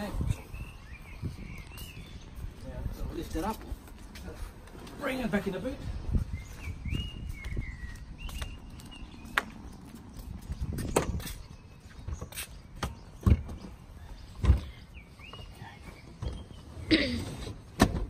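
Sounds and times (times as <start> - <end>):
faint birds chirping: 0.0 - 17.8.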